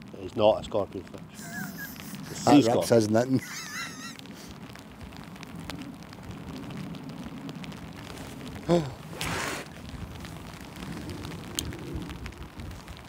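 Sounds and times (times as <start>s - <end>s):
hissing wind gust: 0.0s - 13.0s
wind buffeting microphone: 0.0s - 13.0s.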